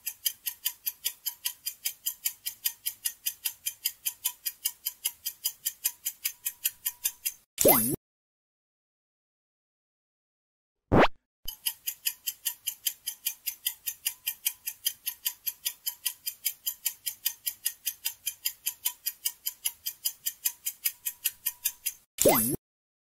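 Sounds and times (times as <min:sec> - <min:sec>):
clock-like ticking timer: 0:00.0 - 0:08.0, 0:11.5 - 0:22.6.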